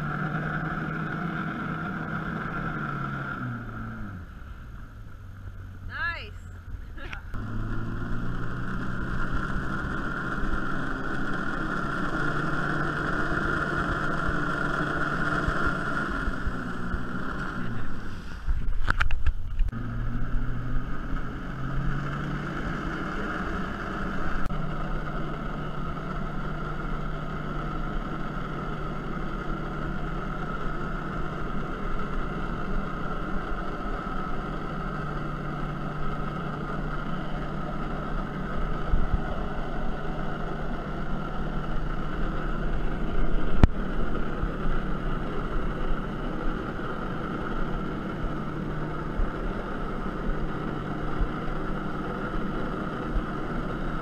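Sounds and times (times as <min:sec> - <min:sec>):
watercraft engine revving: 0:00.0 - 0:06.0, 0:06.6 - 0:18.8, 0:19.7 - 0:54.0.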